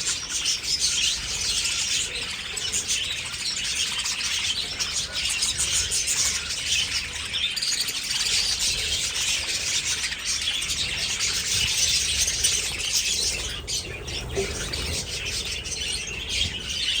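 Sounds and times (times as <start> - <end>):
birds squawking: 0.0 - 17.0
budgerigars chirping and chattering: 0.0 - 17.0.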